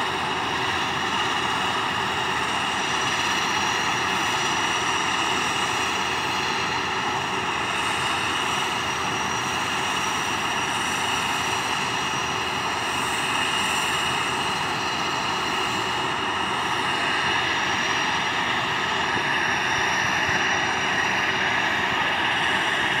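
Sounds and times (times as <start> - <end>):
turboprop engines whining: 0.0 - 23.0.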